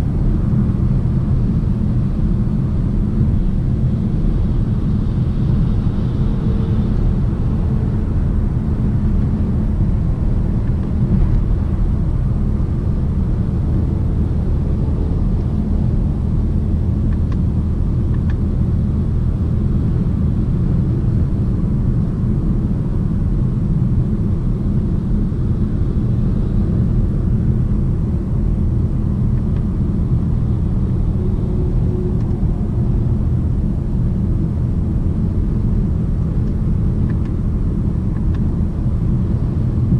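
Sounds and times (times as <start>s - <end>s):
car cabin road and wind noise: 0.0s - 39.9s.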